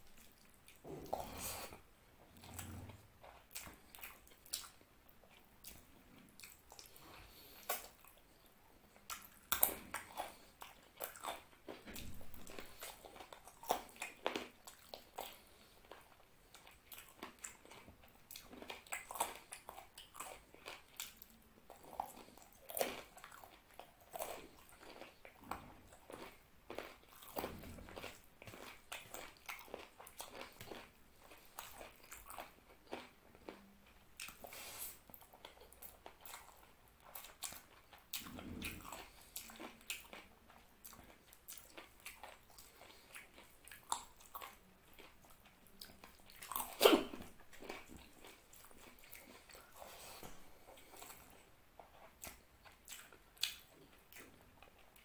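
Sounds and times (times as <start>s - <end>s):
chewing: 0.1s - 55.0s.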